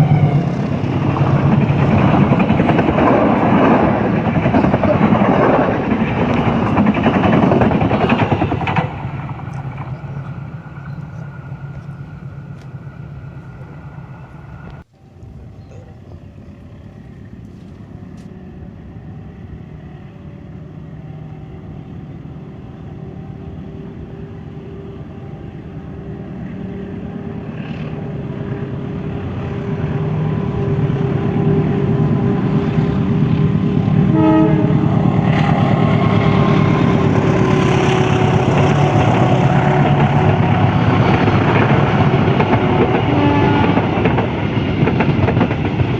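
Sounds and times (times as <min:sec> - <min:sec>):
diesel locomotive engine drone: 0:00.0 - 0:45.9
diesel train passing: 0:00.0 - 0:45.9.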